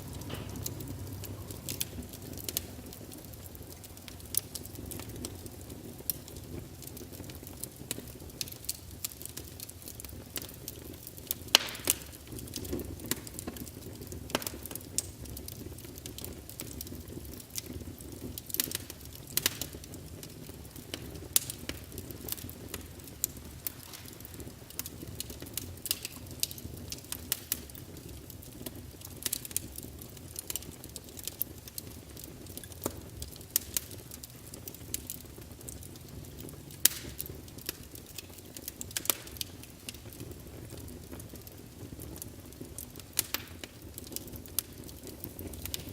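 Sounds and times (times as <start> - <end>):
fire flames rumbling: 0.0 - 45.9
wood crackling and popping: 0.0 - 45.9.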